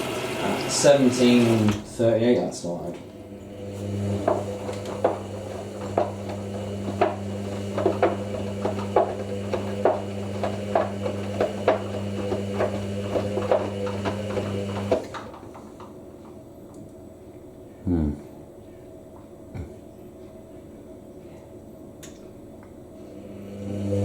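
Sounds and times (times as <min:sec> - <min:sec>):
washing machine humming: 0:00.0 - 0:17.8, 0:18.4 - 0:24.0.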